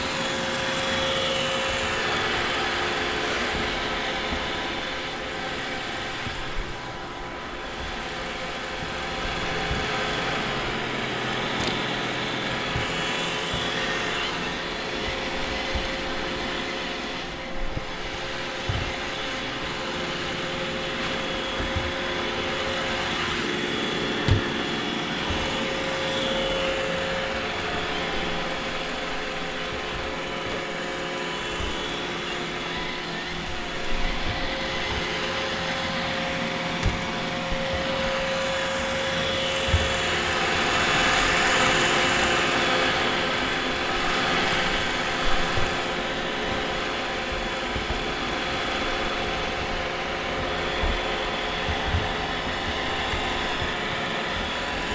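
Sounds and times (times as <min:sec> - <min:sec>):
robot vacuum whirring: 0:00.0 - 0:54.9.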